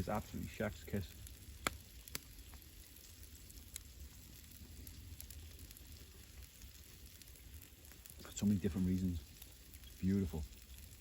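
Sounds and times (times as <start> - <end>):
fire crackling: 0.0 - 11.0
food sizzling over fire: 0.0 - 11.0.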